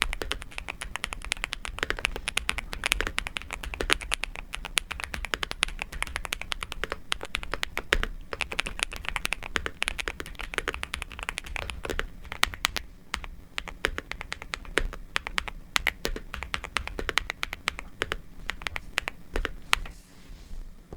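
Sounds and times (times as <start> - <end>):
mechanical keyboard typing: 0.0 - 19.9.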